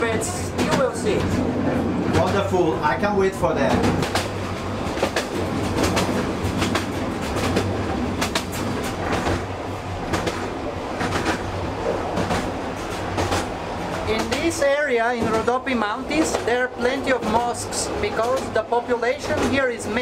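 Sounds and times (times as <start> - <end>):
train carriage rumble and rattle: 0.0 - 20.0
wheels clacking over rail joints: 3.6 - 20.0.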